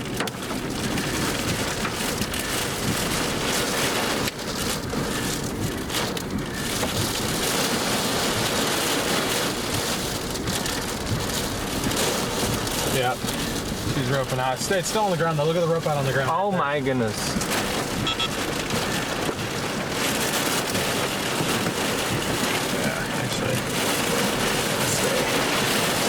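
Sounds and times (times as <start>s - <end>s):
rain and hail on vehicle roof: 0.0s - 26.0s.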